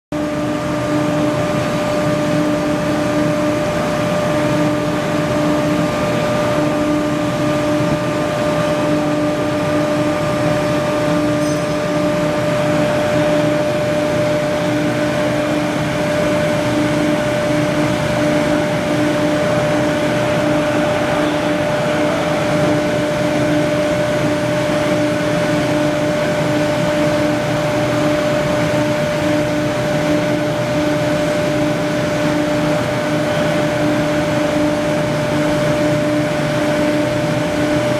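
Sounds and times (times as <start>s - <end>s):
bending machine humming: 0.2s - 37.9s.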